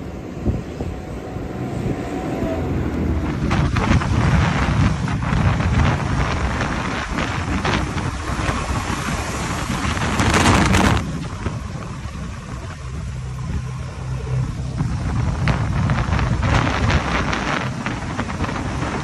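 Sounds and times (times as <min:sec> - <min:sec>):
diesel engine running: 0:00.0 - 0:19.0
loud rushing noise: 0:00.0 - 0:19.0.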